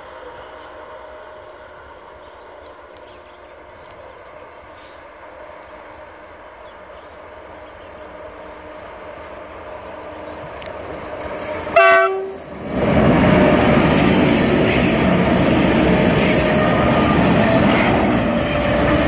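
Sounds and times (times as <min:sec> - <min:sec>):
freight train rumble: 0:00.0 - 0:19.0.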